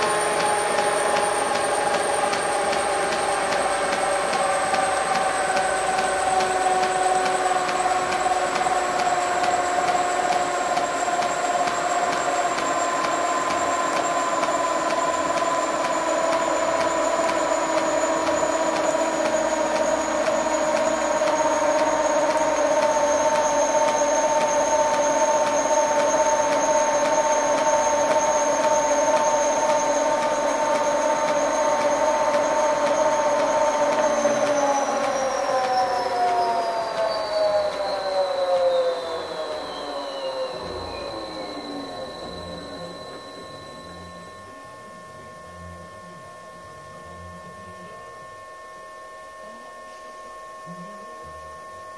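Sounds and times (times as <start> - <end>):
lathe motor whine: 0.0 - 51.9.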